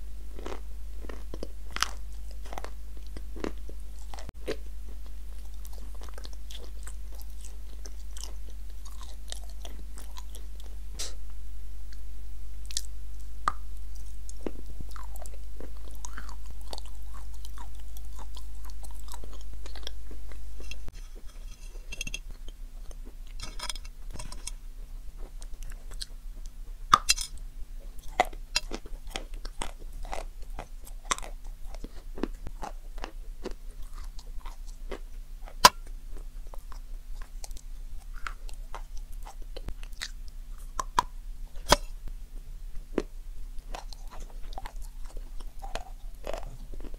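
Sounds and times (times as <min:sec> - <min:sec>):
low hum: 0:00.0 - 0:46.9
chewing crunchy chocolate coating: 0:00.3 - 0:11.2, 0:12.6 - 0:46.9.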